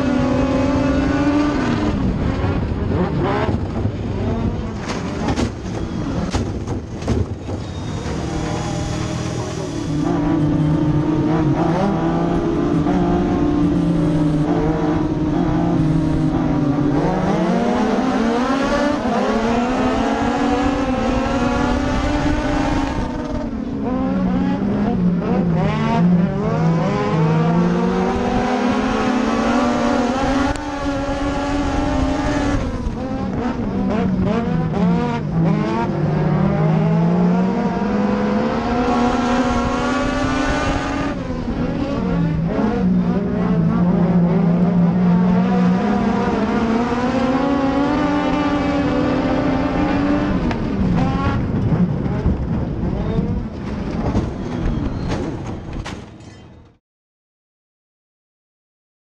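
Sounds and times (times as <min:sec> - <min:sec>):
racing engine revving: 0:00.0 - 0:54.3.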